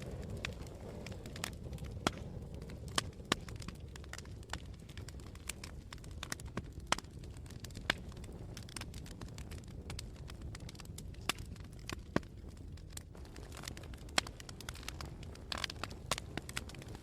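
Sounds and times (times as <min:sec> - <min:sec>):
low rumble of flame: 0:00.0 - 0:17.0
wood crackling and popping: 0:00.0 - 0:17.0.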